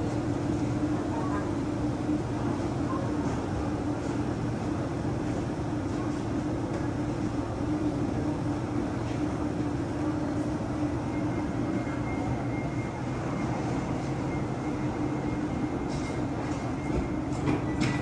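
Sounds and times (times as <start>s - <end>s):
electric train humming: 3.5s - 18.0s.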